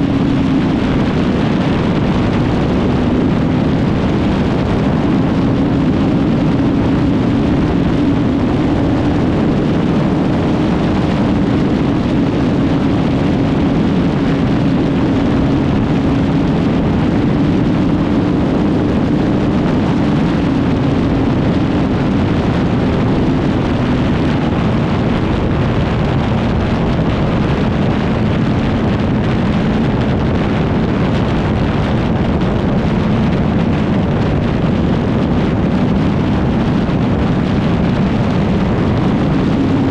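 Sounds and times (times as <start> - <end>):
motorcycle engine at high speed: 0.0 - 39.9
wind rush on microphone: 0.0 - 39.9.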